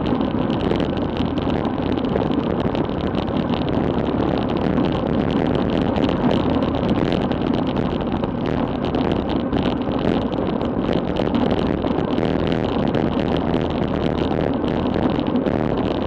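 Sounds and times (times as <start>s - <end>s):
tyre road noise on asphalt: 0.0s - 16.0s
wind rushing over microphone: 0.0s - 16.0s.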